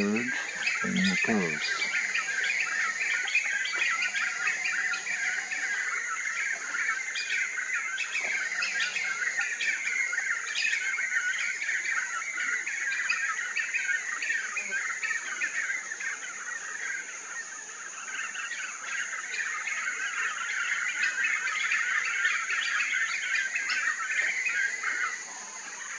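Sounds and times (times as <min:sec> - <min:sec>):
flock of birds calling: 0:00.0 - 0:25.9.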